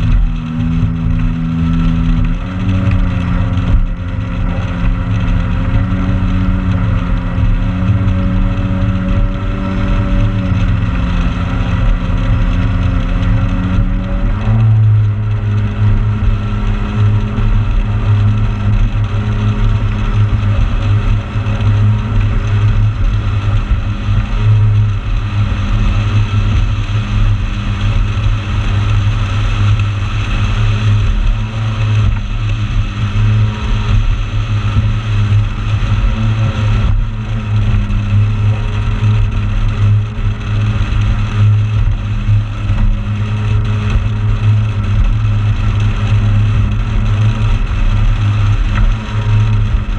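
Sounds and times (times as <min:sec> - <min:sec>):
motorboat engine droning: 0:00.0 - 0:49.9.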